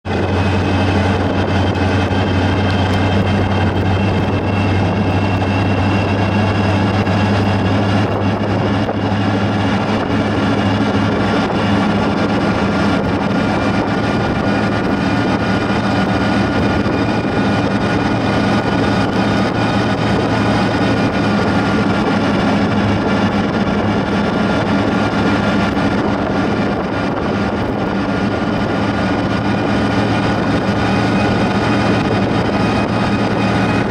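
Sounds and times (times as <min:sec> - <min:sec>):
car engine drone: 0:00.0 - 0:33.9
road and wind noise: 0:00.0 - 0:33.9.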